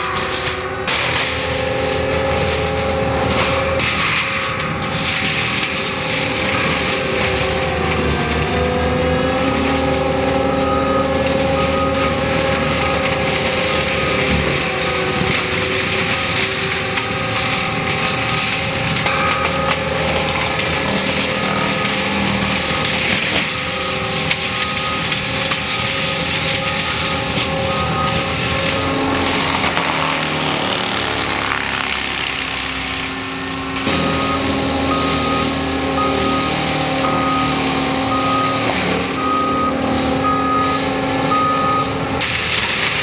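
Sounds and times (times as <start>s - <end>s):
diesel engine under load: 0.0s - 43.0s
mulcher grinding through wood: 0.0s - 43.0s.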